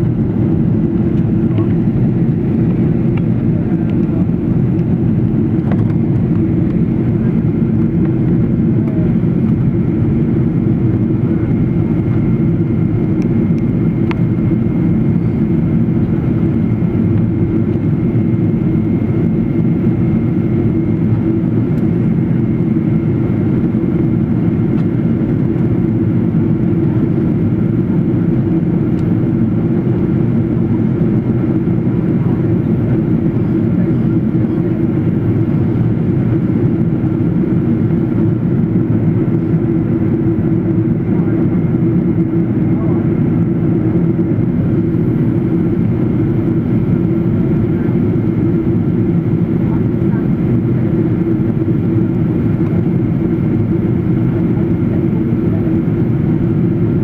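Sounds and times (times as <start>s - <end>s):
airliner engine and airflow noise: 0.0s - 57.0s.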